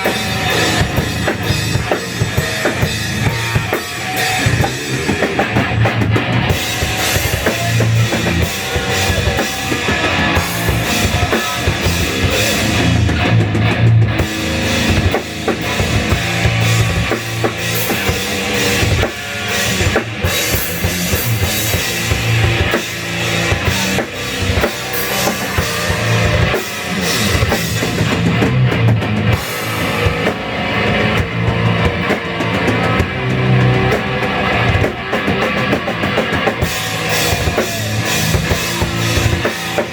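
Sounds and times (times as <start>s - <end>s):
drum kit pounding: 0.0s - 39.9s
loud metal band jam: 0.0s - 39.9s.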